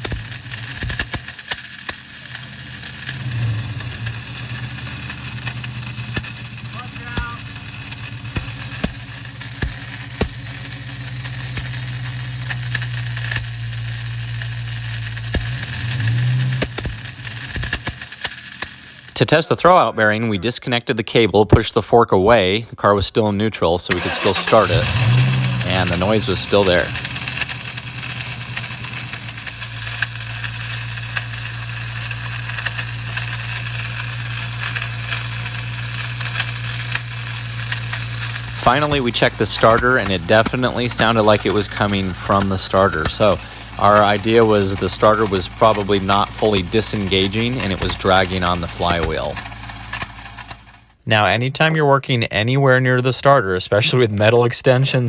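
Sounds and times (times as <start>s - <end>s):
car engine idling: 0.0s - 19.2s, 23.9s - 51.0s
sharp clicks: 0.0s - 19.2s, 23.9s - 51.0s
metallic grinding noise: 0.0s - 19.3s, 23.9s - 51.0s
rattling crackling mechanical noise: 0.0s - 19.6s, 23.9s - 51.1s.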